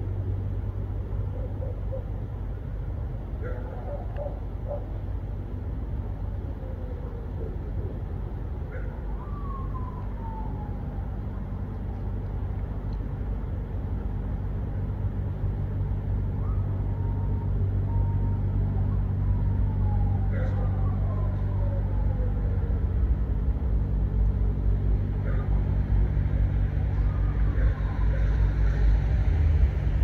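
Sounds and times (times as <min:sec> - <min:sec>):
helicopter rotor drone: 0:00.0 - 0:30.0.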